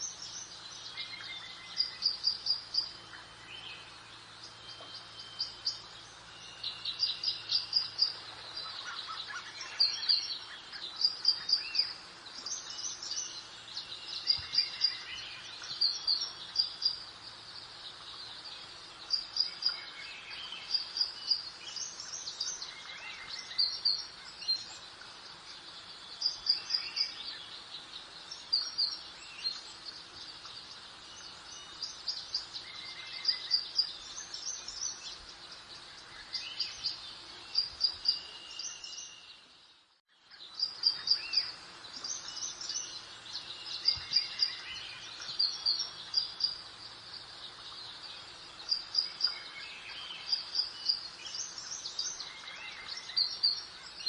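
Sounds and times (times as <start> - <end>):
birds chirping: 0.0 - 54.0
soft background hiss: 0.0 - 54.0.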